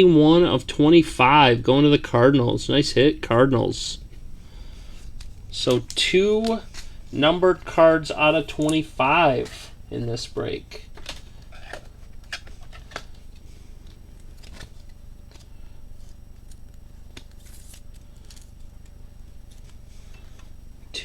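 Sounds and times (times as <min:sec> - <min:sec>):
steady low hum: 0:00.0 - 0:21.0
trading cards rustling: 0:01.6 - 0:20.3.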